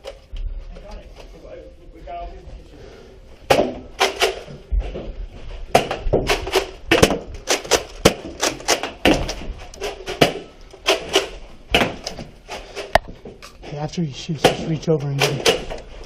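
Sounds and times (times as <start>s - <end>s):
muffled activity: 0.0s - 16.0s.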